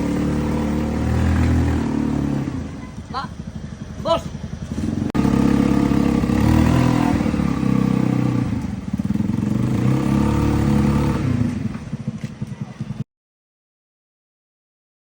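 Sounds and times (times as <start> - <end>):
engine revving: 0.0 - 12.1.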